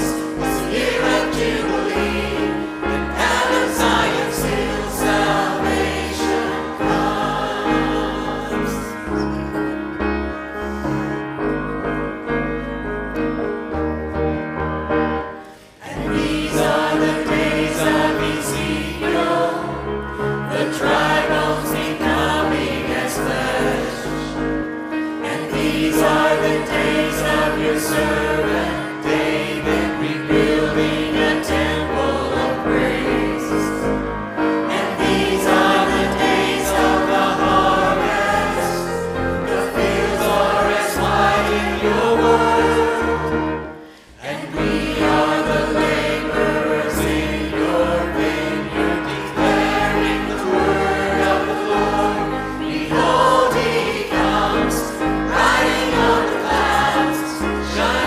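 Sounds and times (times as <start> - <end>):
choir and congregation singing: 0.0 - 58.0
piano: 0.0 - 58.0.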